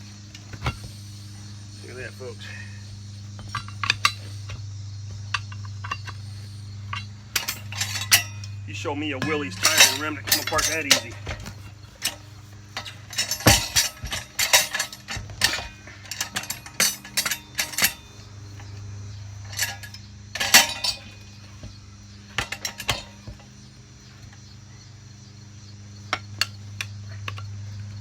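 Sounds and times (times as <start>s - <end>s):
tire tools clanking on wheel rim: 0.0s - 28.0s.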